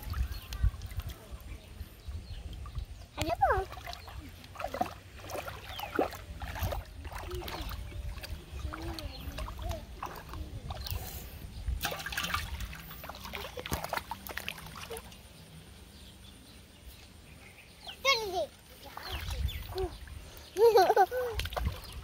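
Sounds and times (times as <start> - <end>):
water sloshing and splashing: 0.0 - 15.7, 17.9 - 22.0.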